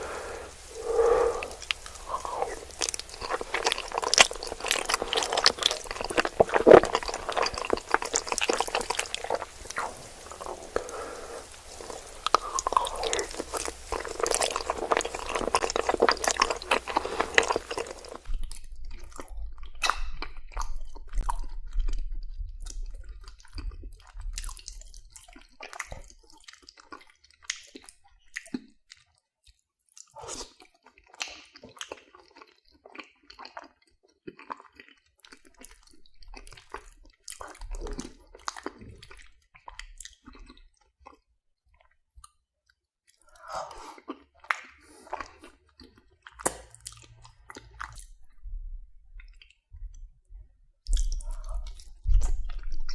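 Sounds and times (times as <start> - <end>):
wet chewing mouth sounds: 0.0 - 52.9.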